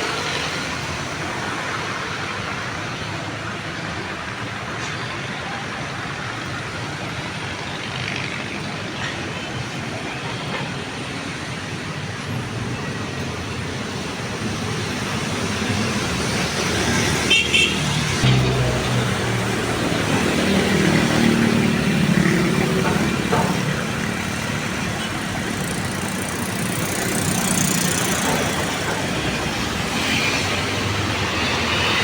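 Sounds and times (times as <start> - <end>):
road traffic passing: 0.0 - 32.0.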